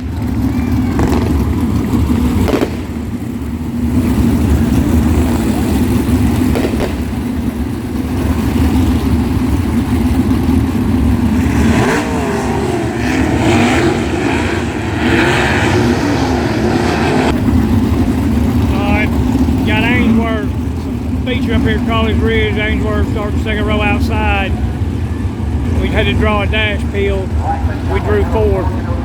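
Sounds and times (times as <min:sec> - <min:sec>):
engines revving: 0:00.0 - 0:29.0
race car engines droning: 0:00.0 - 0:29.0.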